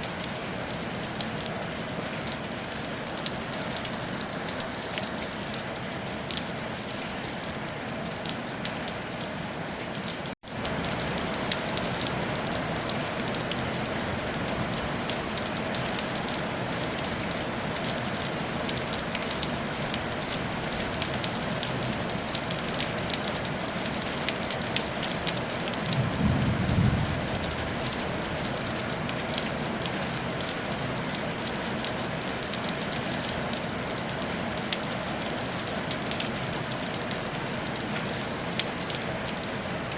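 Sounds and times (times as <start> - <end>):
rain pattering on a tile roof: 0.0 - 39.9.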